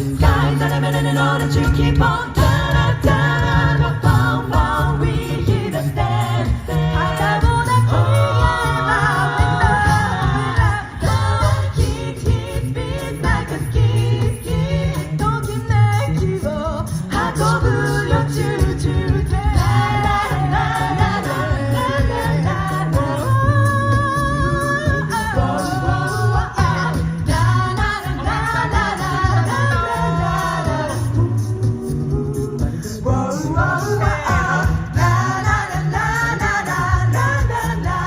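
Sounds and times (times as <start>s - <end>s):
a cappella group singing in harmony: 0.0s - 38.0s.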